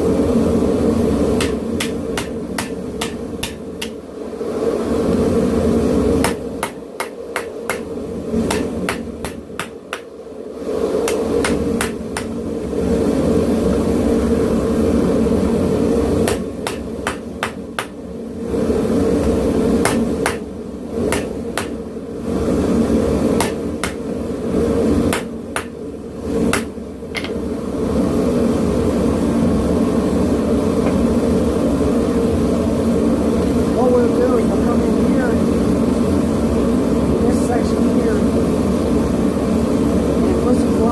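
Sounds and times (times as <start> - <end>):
propane forge roaring: 0.0 - 40.9.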